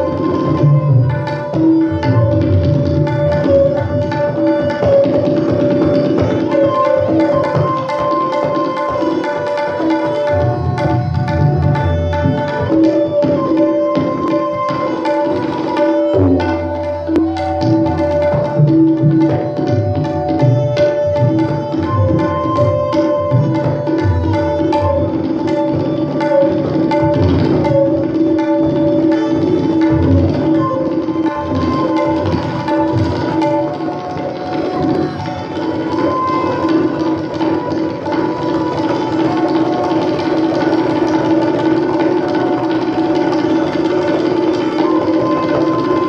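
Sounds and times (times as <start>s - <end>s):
bowed string melody: 0.0s - 40.7s, 43.4s - 46.0s
tabla strokes: 0.0s - 46.0s.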